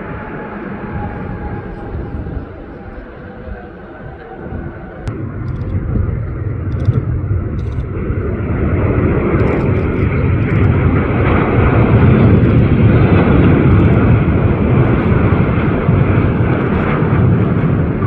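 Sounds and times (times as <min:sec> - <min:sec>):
jet airliner engine rumble: 0:00.0 - 0:18.0.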